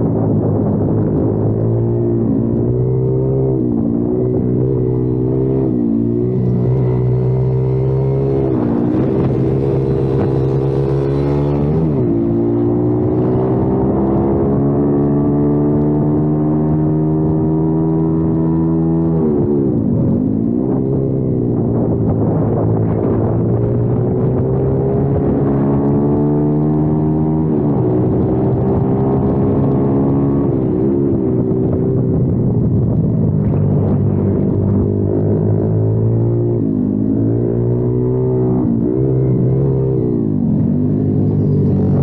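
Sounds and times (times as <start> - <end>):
motorbike engine running hard: 0.0 - 42.0.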